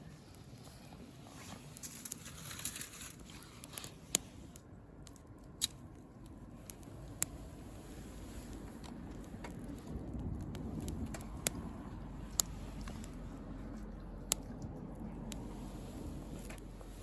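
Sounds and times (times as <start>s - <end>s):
light rustle: 0.0s - 17.0s
twig fire crackling: 0.0s - 17.0s.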